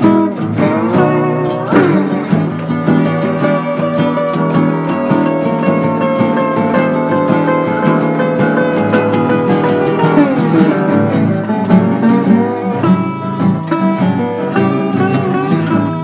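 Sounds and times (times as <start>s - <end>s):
acoustic guitars strumming: 0.0s - 16.0s
blues on resonator guitar: 0.0s - 16.0s.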